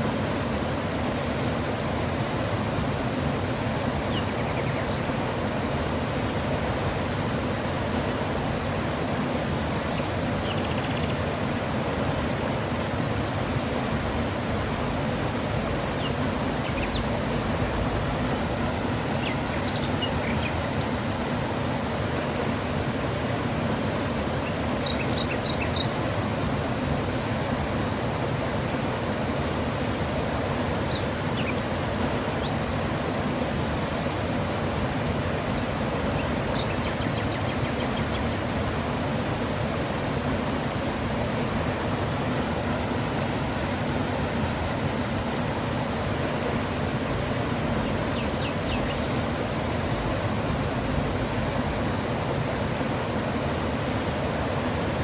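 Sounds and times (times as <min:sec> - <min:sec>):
mountain river rushing: 0:00.0 - 0:55.0.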